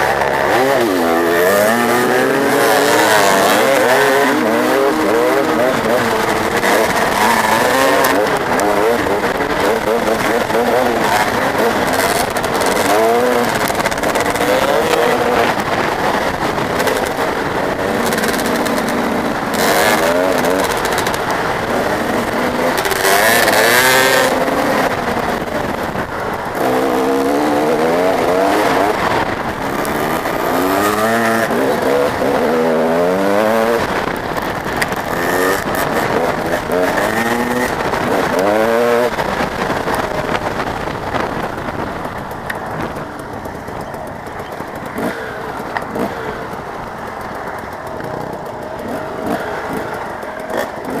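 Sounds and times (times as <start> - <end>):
motorcycle engines revving: 0.0 - 51.0.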